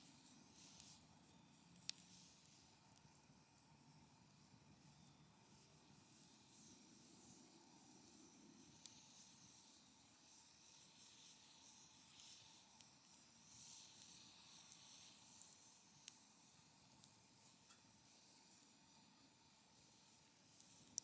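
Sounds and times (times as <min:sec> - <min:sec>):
fire crackling: 0:00.0 - 0:21.0
hiss of flames: 0:00.0 - 0:21.0.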